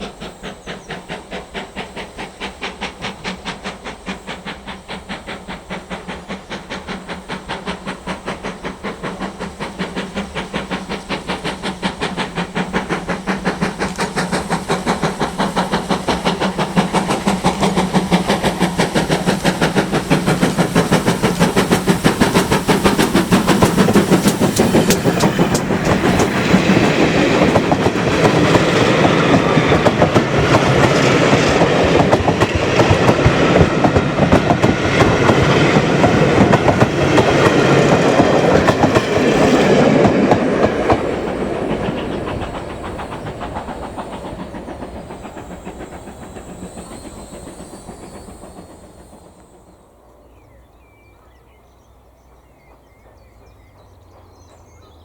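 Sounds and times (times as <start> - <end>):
steam train chugging: 0.0 - 55.0.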